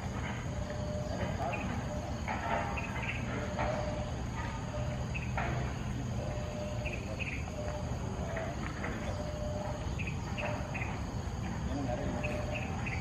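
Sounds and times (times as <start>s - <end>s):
insects chirring: 0.0s - 13.0s
low hum: 0.0s - 13.0s.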